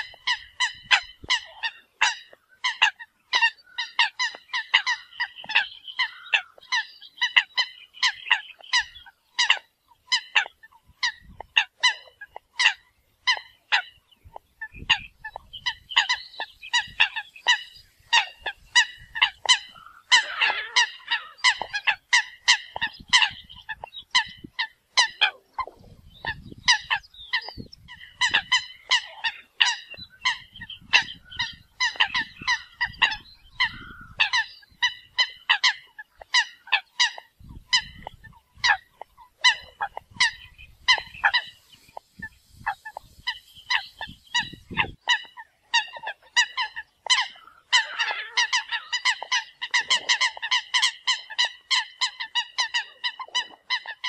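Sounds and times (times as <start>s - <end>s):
coots honking calls: 0.0s - 54.0s.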